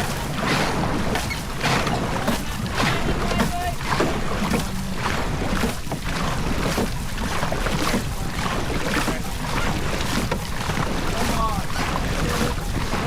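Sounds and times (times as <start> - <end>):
swishing splash: 0.0 - 13.0
water splashing around a boat: 0.0 - 13.0
wind on microphone: 0.0 - 13.0.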